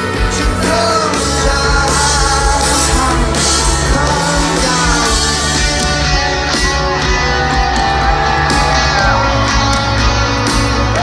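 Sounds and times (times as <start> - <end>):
live rock band: 0.0 - 11.0
person singing: 0.0 - 11.0.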